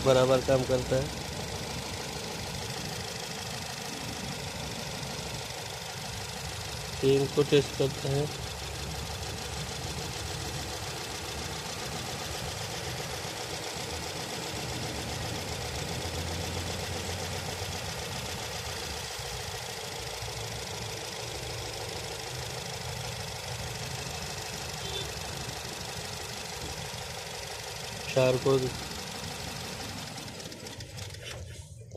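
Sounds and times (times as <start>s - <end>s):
car engine idling with misfire: 0.0s - 31.9s.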